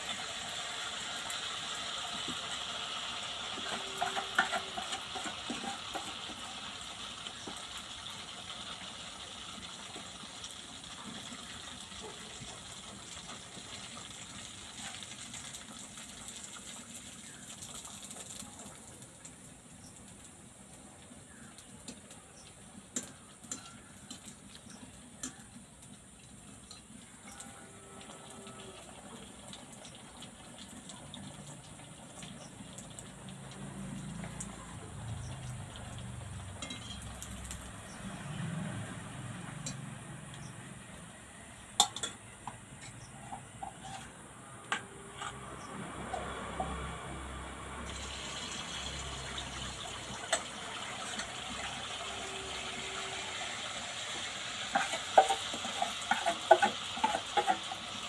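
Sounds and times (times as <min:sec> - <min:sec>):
batter sizzling in hot oil: 0:00.0 - 0:58.0.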